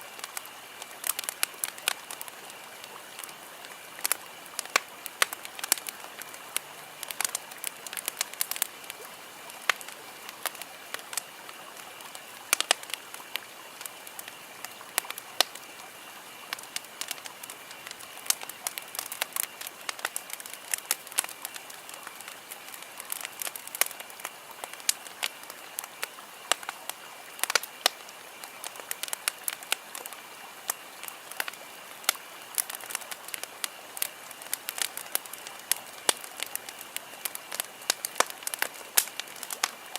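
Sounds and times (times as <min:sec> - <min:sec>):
campfire crackling: 0:00.0 - 0:39.9
fire hissing: 0:00.0 - 0:39.9.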